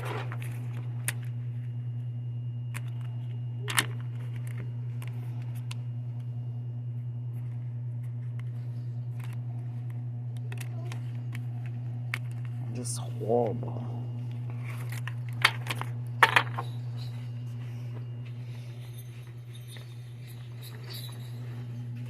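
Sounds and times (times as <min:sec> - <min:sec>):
small clicks and handling sounds: 0:00.0 - 0:13.5, 0:14.2 - 0:21.6
low hum of store background: 0:00.0 - 0:22.0.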